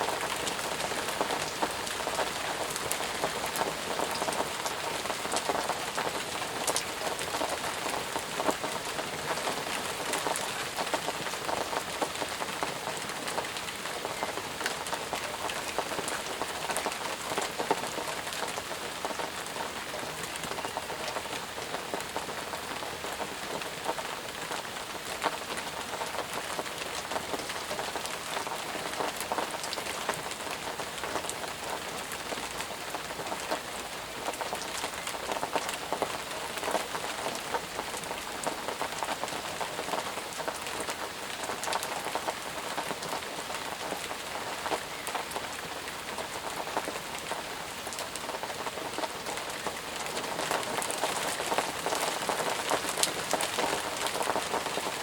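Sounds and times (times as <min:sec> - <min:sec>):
raindrops pattering on surfaces: 0:00.0 - 0:55.0
steady rain falling: 0:00.0 - 0:55.0.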